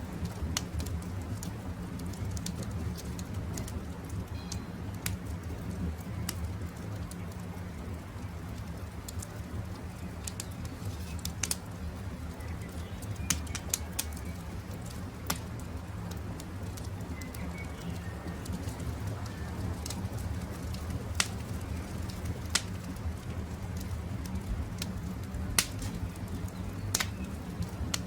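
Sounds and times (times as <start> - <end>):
campfire crackling and popping: 0.0 - 28.0
birds chirping faintly: 2.0 - 28.0.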